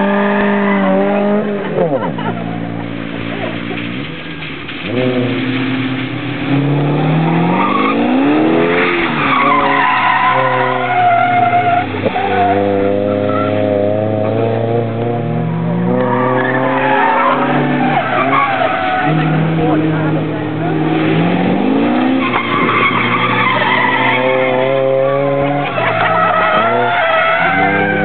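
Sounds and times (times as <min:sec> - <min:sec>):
car engine revving hard: 0:04.8 - 0:28.0.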